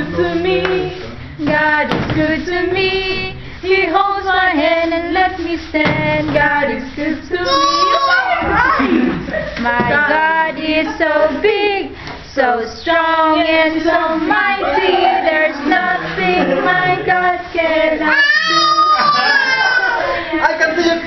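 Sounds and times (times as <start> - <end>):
children singing together: 0.0 - 20.7.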